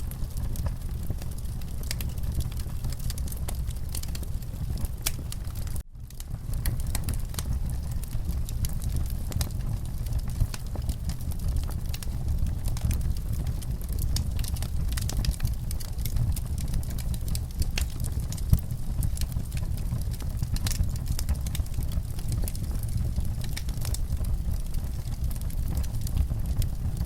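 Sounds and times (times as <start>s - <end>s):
fire crackling and snapping: 0.0s - 27.0s
flames rumbling: 0.0s - 27.0s.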